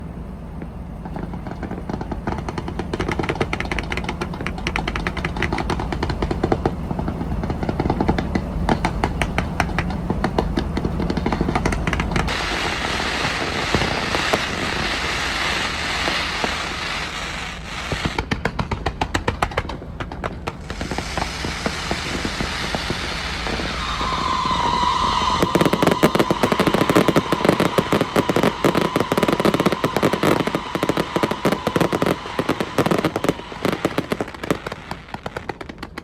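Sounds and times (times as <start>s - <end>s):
fireworks crackling: 0.0s - 36.0s
steady hiss: 0.0s - 36.0s.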